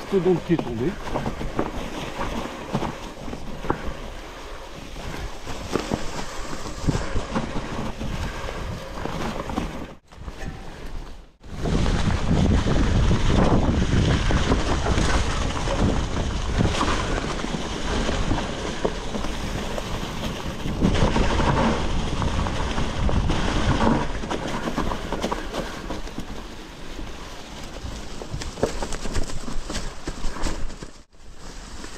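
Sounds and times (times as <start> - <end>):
tyres crunching through leaves: 0.0 - 10.1, 11.5 - 31.9
wind rushing over microphone: 0.0 - 26.3
bike rattling and knocking: 0.0 - 31.1.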